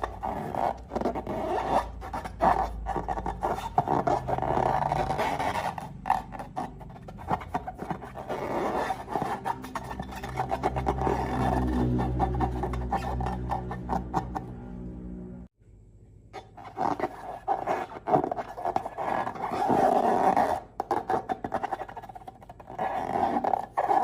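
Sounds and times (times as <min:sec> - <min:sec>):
slime scraping: 0:00.0 - 0:14.6, 0:16.4 - 0:24.0.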